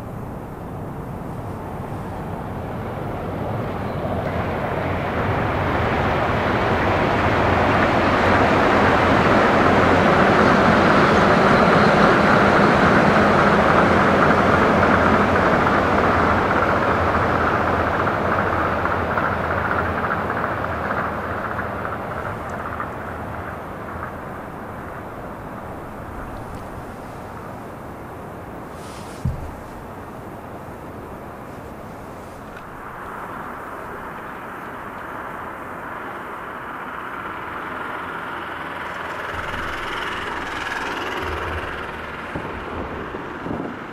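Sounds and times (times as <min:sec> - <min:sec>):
monorail train rolling past: 0:00.0 - 0:43.9.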